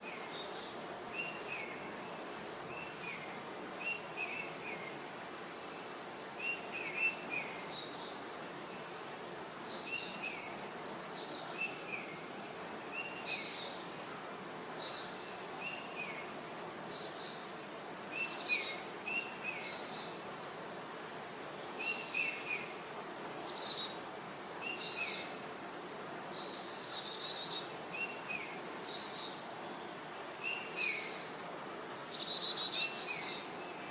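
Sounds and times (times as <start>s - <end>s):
songbirds singing and calling: 0.0s - 33.9s.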